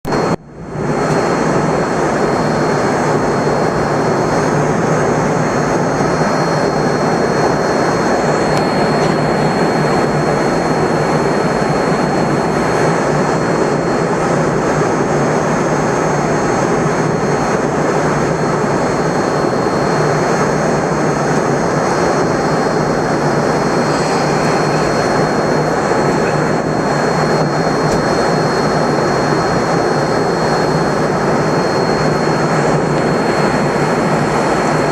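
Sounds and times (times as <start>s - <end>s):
thin high whine: 0.1s - 14.5s, 16.7s - 34.9s
jet engines roaring: 0.1s - 34.9s.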